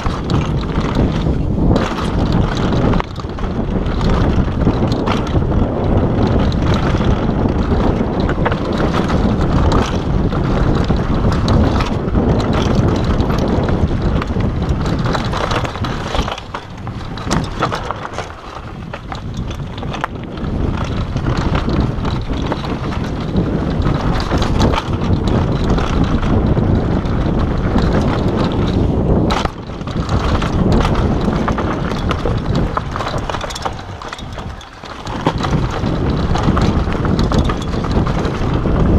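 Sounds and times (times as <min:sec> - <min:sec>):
bike rattling over bumps: 0:00.0 - 0:38.9
tyres rumbling over dirt trail: 0:00.0 - 0:38.9
wind buffeting microphone: 0:00.0 - 0:38.9.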